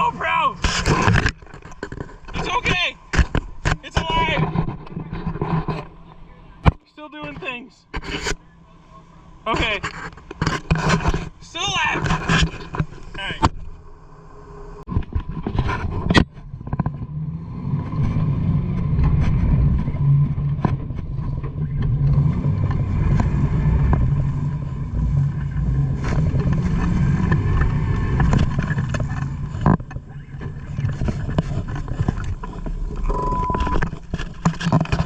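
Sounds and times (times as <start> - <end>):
engine rumbling under strain: 4.5 - 7.0, 7.8 - 35.0.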